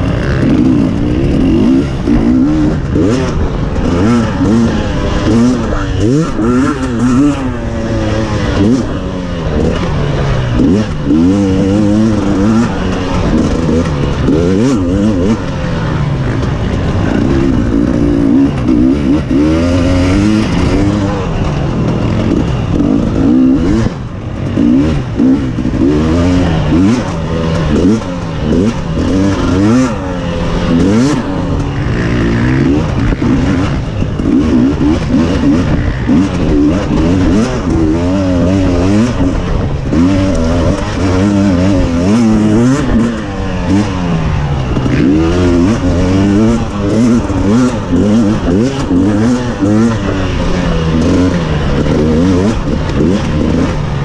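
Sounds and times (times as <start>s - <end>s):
racing engine revving: 0.0s - 54.0s.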